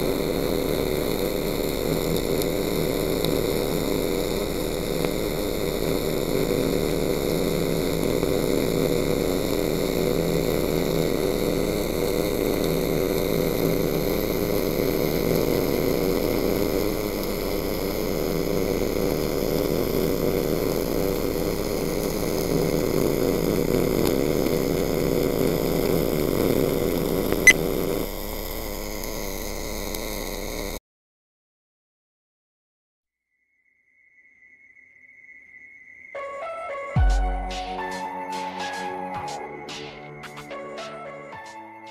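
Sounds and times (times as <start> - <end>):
arc welding hum and hiss: 0.0 - 30.8, 37.0 - 41.9.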